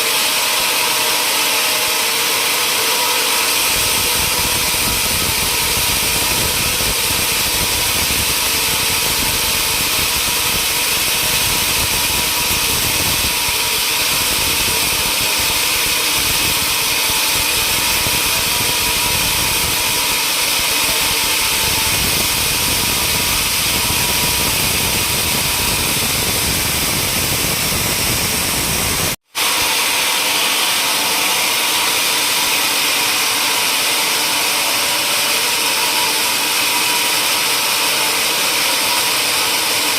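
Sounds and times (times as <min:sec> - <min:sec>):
sawmill machinery whine and hiss: 0:00.0 - 0:39.9.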